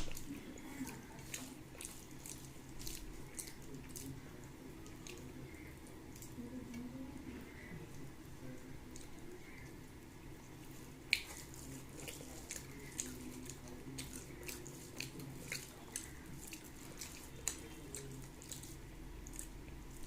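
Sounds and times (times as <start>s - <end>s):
wet mouth chewing: 0.0s - 6.9s, 10.4s - 20.0s
faint low hum: 0.0s - 20.0s.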